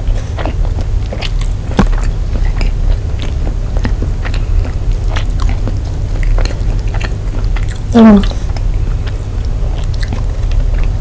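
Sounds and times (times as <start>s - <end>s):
chewing food: 0.0s - 11.0s
steady low hum: 0.0s - 11.0s.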